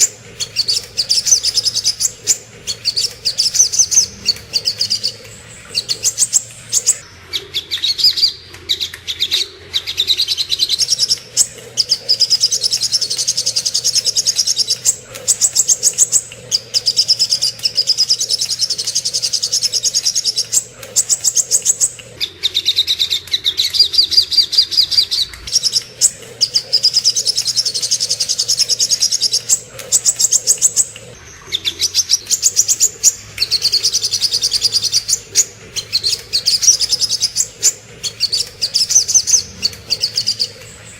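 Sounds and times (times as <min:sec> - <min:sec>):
bird singing fast trills: 0:00.0 - 0:40.9.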